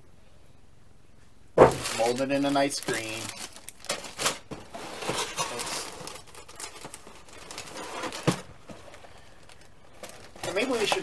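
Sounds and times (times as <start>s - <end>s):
plastic bag crinkling: 1.6s - 11.0s.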